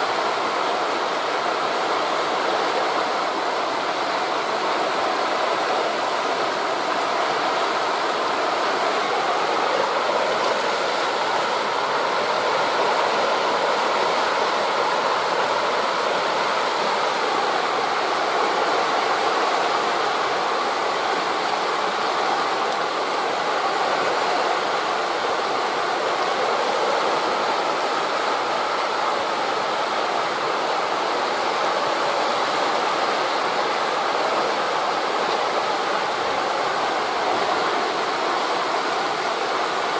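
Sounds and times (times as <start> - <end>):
distant surf: 0.0 - 39.9
wind through tree leaves: 0.0 - 39.9.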